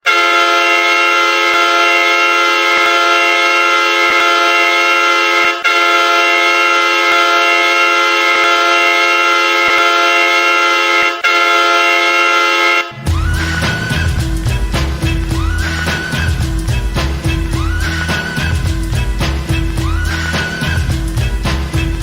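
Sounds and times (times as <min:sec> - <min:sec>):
goal horn blasts: 0:00.0 - 0:22.0.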